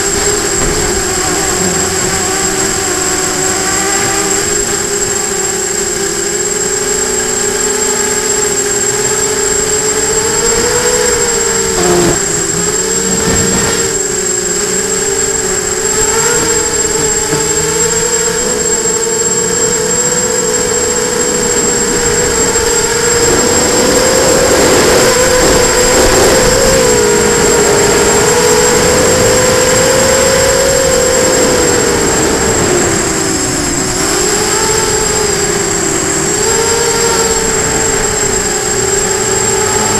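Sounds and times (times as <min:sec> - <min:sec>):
drone motors and propellers whining: 0:00.0 - 0:39.9
thin steady high tone: 0:00.0 - 0:39.9.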